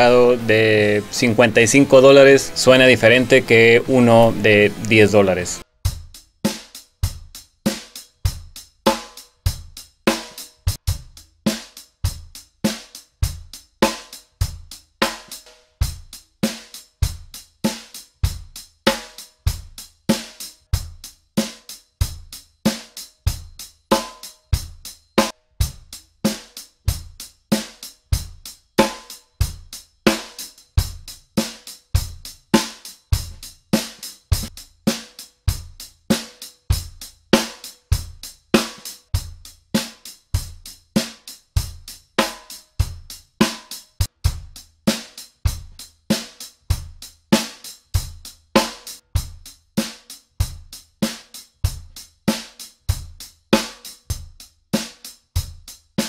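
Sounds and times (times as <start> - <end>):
drum kit playing beat: 0.0 - 56.0.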